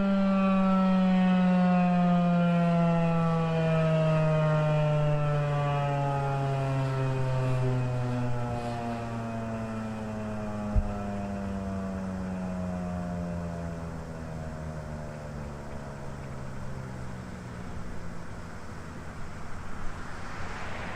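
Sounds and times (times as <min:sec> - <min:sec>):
warning siren winding down: 0:00.0 - 0:20.9.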